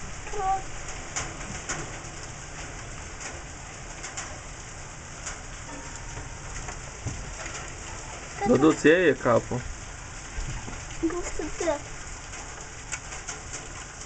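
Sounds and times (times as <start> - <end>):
drops or hailstones ticking: 0.0 - 14.0
heavy rain pouring: 0.0 - 14.0.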